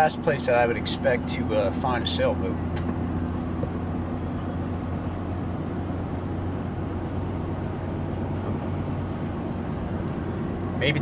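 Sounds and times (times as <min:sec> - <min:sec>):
road noise: 0:00.0 - 0:11.0
truck engine hum: 0:00.0 - 0:11.0.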